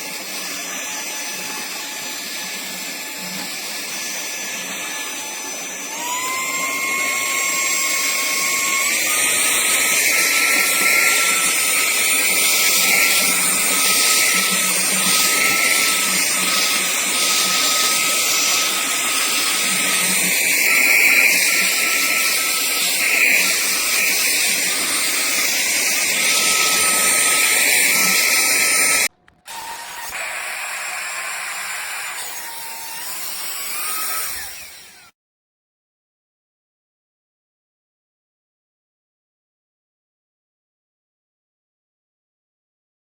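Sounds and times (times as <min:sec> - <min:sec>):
handheld vacuum cleaner running: 0:00.0 - 0:35.1.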